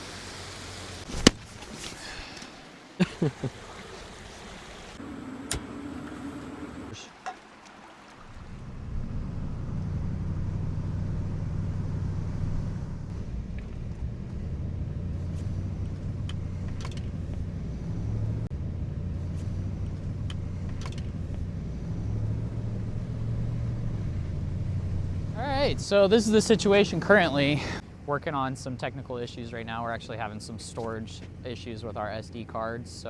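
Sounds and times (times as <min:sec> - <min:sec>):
truck engine low rumble: 0:00.0 - 0:07.1, 0:07.8 - 0:33.0.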